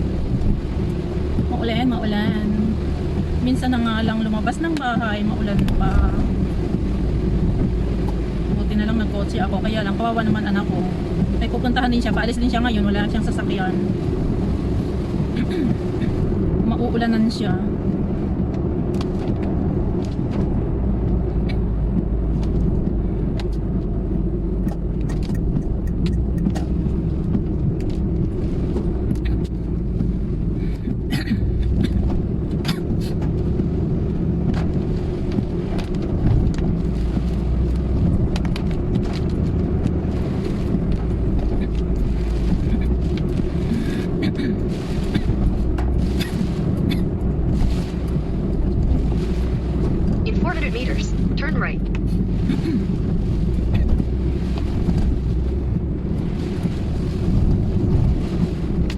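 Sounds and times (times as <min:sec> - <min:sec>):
car engine and road rumble: 0:00.0 - 0:58.9
raindrops ticking on car: 0:00.0 - 0:58.9.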